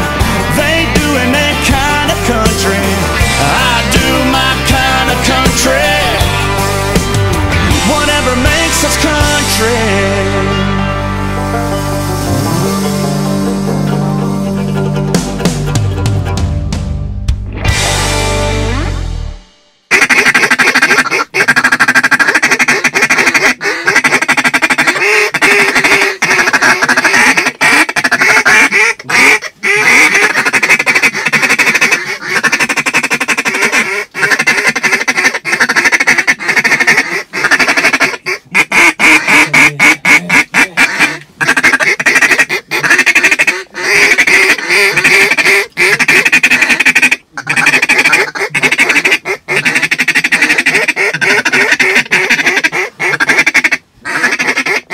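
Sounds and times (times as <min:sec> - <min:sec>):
ducks quacking: 0:00.0 - 0:16.5, 0:19.9 - 0:54.9.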